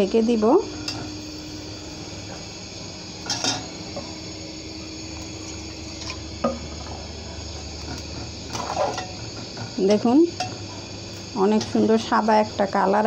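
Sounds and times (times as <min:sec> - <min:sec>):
low hum: 0:00.0 - 0:13.0
spatula stirring liquid in pot: 0:00.8 - 0:12.1.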